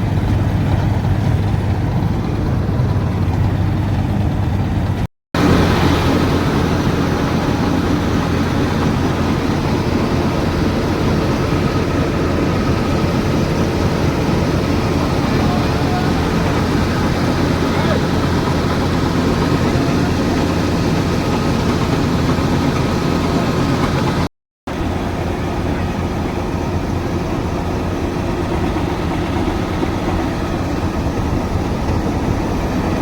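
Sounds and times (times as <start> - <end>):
combine harvester engine hum: 0.0 - 33.0.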